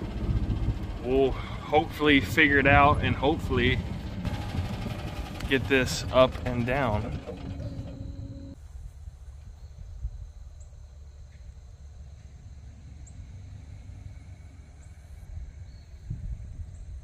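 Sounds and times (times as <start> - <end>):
wind rumbling on microphone: 0.0 - 14.4, 15.2 - 17.0.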